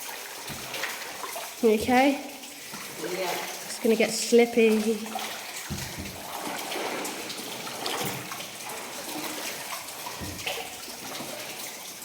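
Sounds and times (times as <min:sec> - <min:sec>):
boots wading through water: 0:00.0 - 0:12.0.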